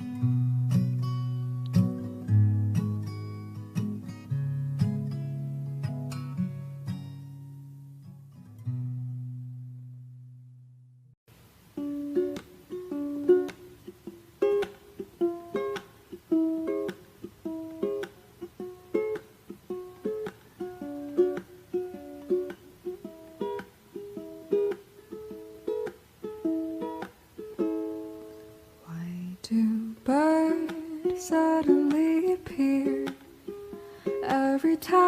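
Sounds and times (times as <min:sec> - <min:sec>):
ukulele plucked melody: 0:00.0 - 0:09.9, 0:11.6 - 0:35.0.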